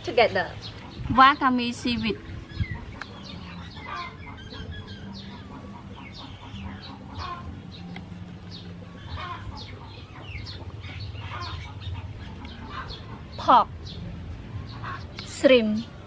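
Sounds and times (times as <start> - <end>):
birds chirping: 0.0 - 16.0
low steady hum: 0.0 - 16.0.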